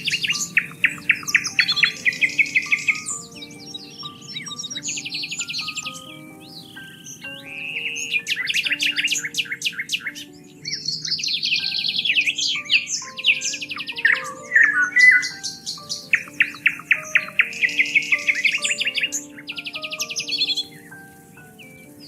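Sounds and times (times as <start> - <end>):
soft background music: 0.0 - 22.0
songbirds singing and chirping: 0.0 - 22.0.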